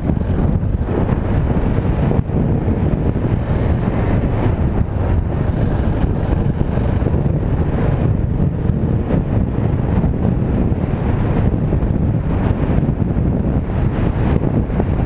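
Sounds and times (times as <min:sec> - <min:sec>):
motorcycle engine running: 0:00.0 - 0:15.0
wind buffeting the microphone: 0:00.0 - 0:15.0.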